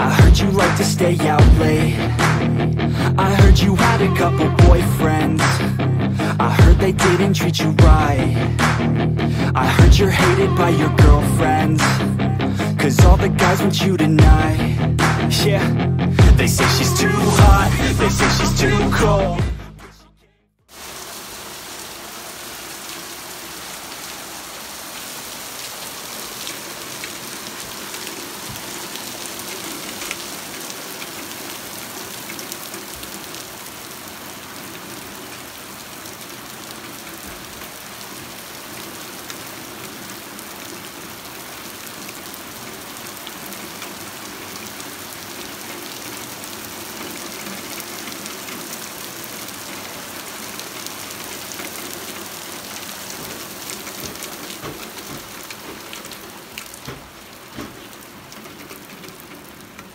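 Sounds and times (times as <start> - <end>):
rain on wet asphalt: 0.0 - 18.9, 20.7 - 59.9.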